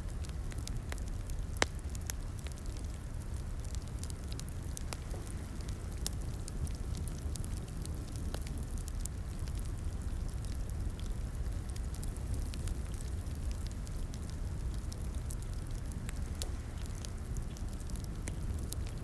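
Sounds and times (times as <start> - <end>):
logs burning in fireplace: 0.0 - 19.0
fire pops and snaps: 0.2 - 19.0.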